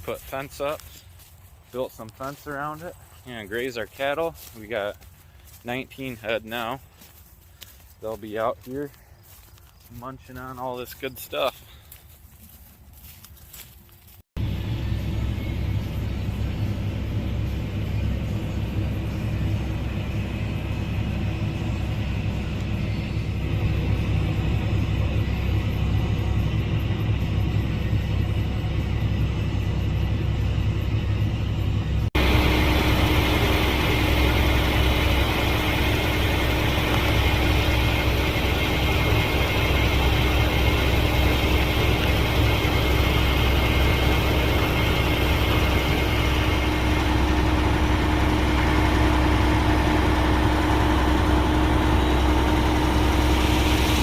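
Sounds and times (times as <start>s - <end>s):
heavy machinery engine running: 0.0s - 13.1s, 14.4s - 54.0s
engine with steady whine: 0.0s - 54.0s.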